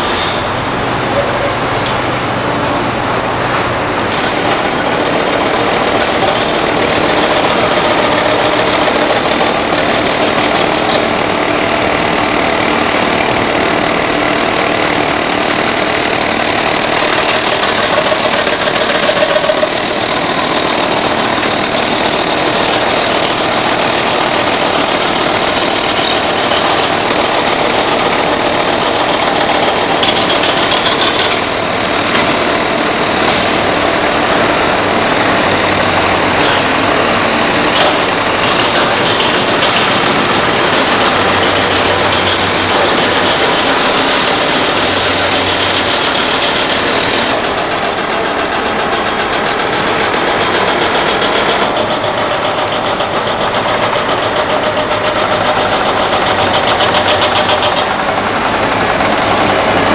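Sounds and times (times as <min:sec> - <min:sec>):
diesel construction machinery running: 0:00.0 - 0:59.9.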